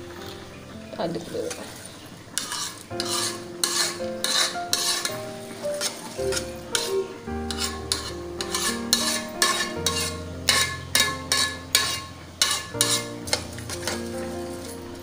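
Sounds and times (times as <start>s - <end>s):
spoon scraping metal pot: 2.4s - 14.8s
background music with held chords: 3.0s - 15.0s.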